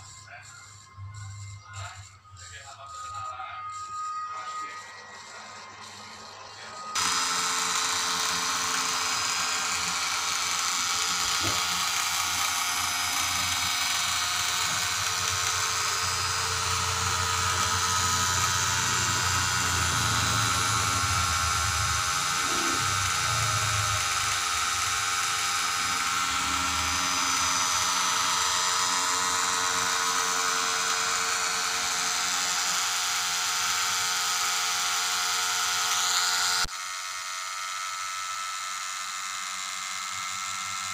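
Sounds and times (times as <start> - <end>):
small electric motor whining: 0.0 - 40.9.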